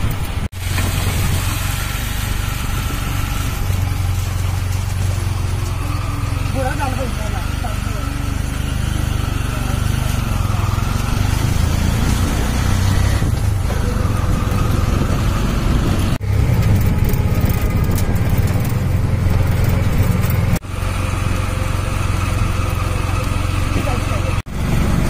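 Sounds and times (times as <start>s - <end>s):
motor vehicle running: 0.0s - 25.0s.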